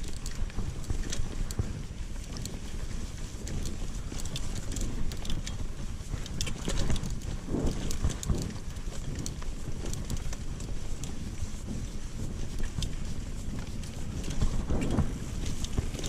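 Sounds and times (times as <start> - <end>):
bike clicks and rattles: 0.0 - 16.0
bike tyres rumbling on dirt: 0.0 - 16.0
wind on microphone: 0.0 - 16.0.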